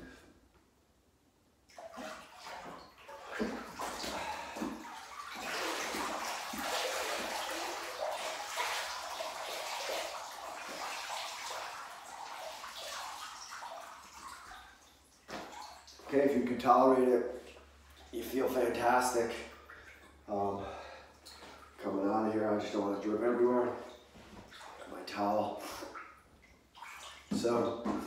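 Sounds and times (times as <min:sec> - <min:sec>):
bathwater sloshing and splashing: 0:01.6 - 0:28.0
water stream running into tub: 0:01.7 - 0:28.0.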